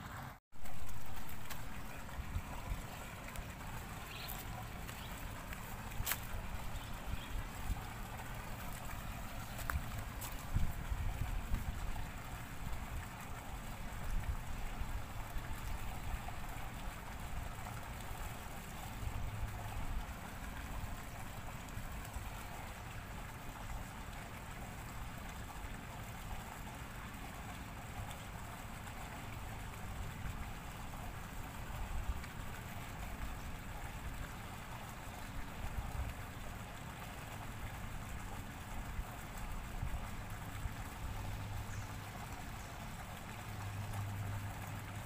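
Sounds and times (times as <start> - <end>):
low uneven rumble: 0.0 - 45.0.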